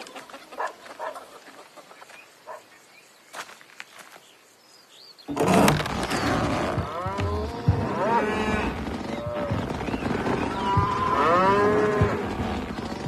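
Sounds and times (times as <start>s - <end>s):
animals calling: 0.0s - 3.2s, 5.2s - 13.0s.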